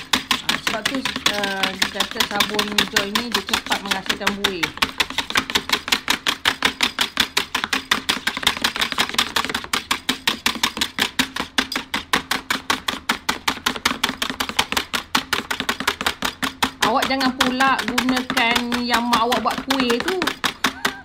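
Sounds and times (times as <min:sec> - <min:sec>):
wire whisk beating soapy water: 0:00.0 - 0:21.0.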